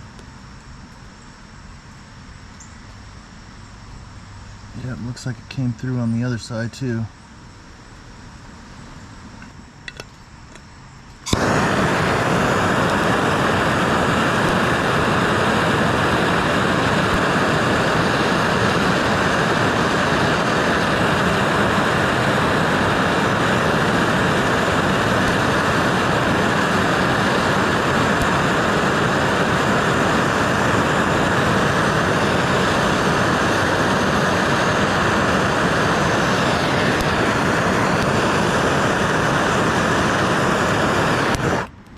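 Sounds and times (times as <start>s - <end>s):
gas torch hissing: 4.8s - 7.6s, 8.4s - 41.7s.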